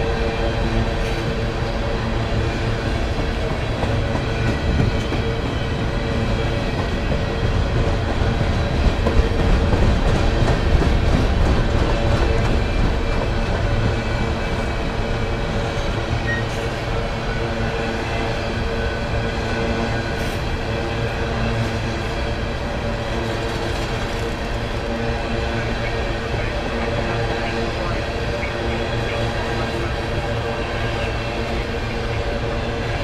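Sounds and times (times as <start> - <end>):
steel wheels rumbling on rail: 0.0 - 33.0.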